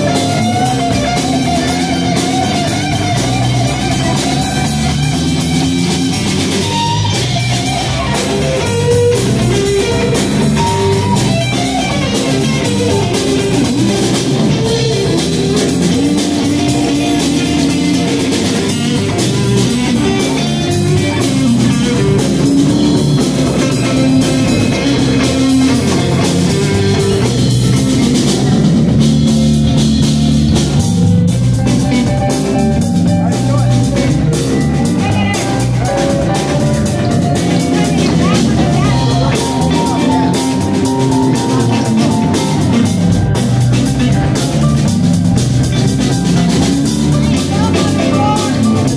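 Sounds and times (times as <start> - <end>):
bass guitar: 0.0 - 48.9
drum kit: 0.0 - 48.9
electric guitars: 0.0 - 48.9.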